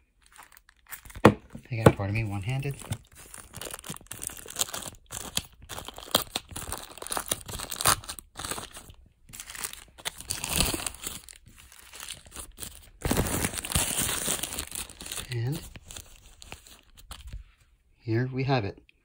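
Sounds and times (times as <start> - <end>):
plastic bag crinkling: 0.1 - 17.4.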